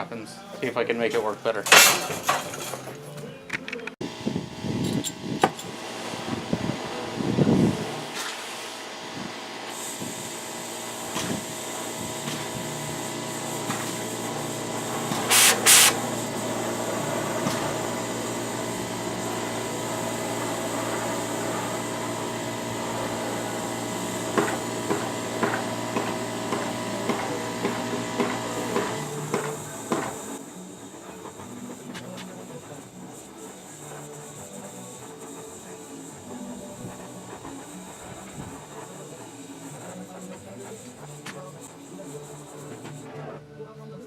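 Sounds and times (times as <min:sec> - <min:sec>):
gas torch burning: 0:04.0 - 0:43.4.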